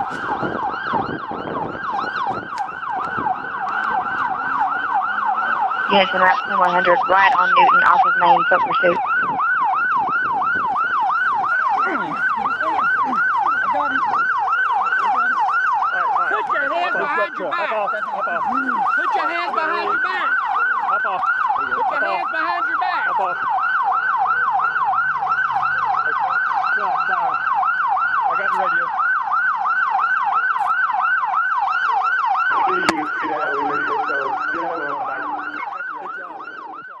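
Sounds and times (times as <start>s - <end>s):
police siren yelping: 0.0s - 37.0s.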